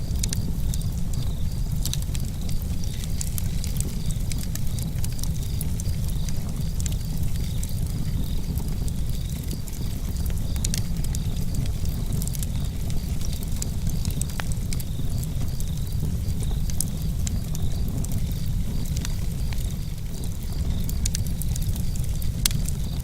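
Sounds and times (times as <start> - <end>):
campfire pops and snaps: 0.0 - 23.0
fire low rumble: 0.0 - 23.0.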